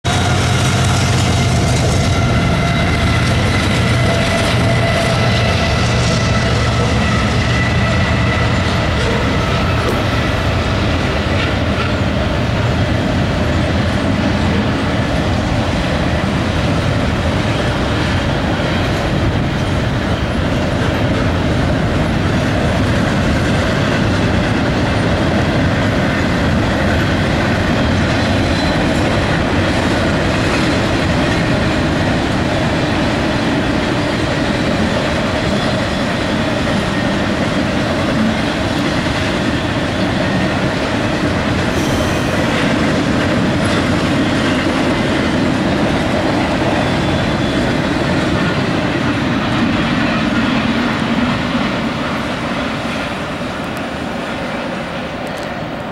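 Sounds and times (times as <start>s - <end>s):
freight train cars passing: 0.0s - 55.9s.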